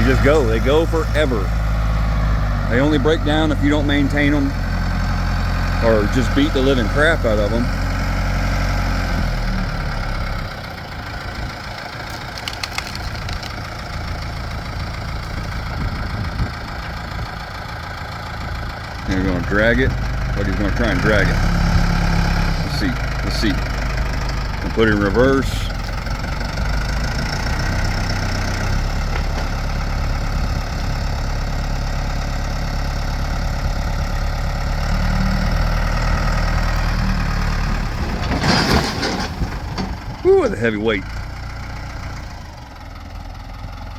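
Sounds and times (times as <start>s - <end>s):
backhoe engine idling: 0.0s - 43.9s.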